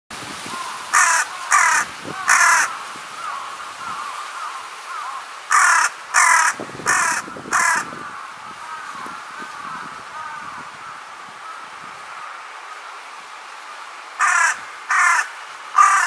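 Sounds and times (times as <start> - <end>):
crow cawing: 0.5 - 12.9, 13.7 - 16.0.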